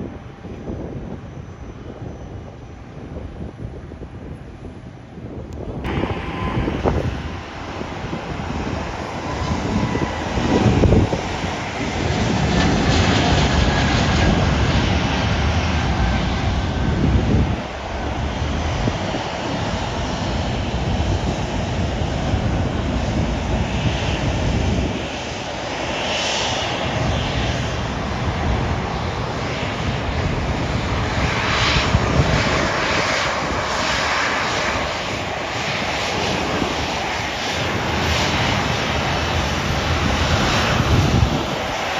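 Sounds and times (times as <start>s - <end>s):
airliner engines running: 0.0s - 41.9s.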